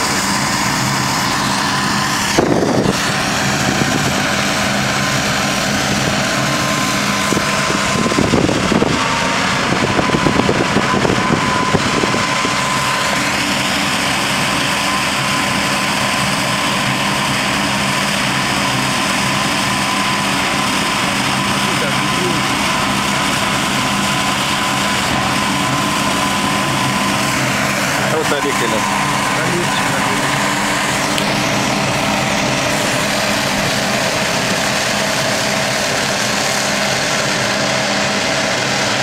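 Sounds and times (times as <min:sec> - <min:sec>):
steady high tone: 0:00.0 - 0:36.6
tractor engine running: 0:00.0 - 0:39.0.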